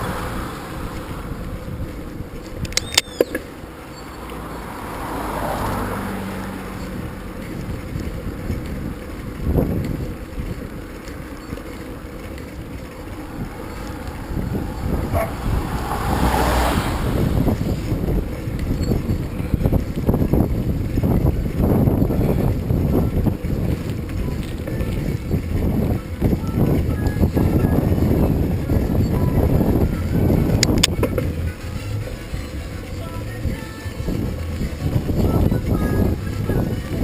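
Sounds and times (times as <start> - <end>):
wind on microphone: 0.0 - 3.6, 4.2 - 37.0
bicycle rattling on rough ground: 0.0 - 37.0.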